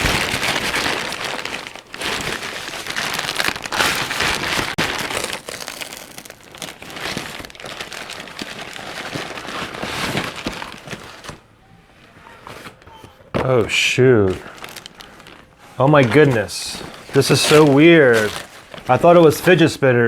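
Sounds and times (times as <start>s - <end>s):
packaging crinkling and rustling: 0.0s - 19.8s.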